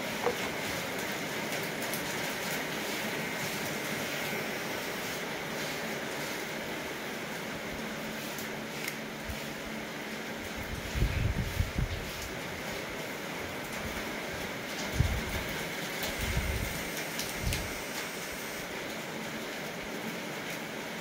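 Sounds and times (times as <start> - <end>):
room noise hiss: 0.0 - 21.0.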